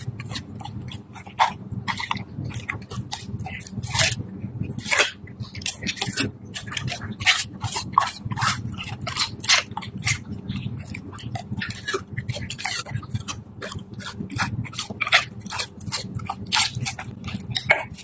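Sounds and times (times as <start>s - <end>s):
dog chewing pear: 0.0s - 18.0s.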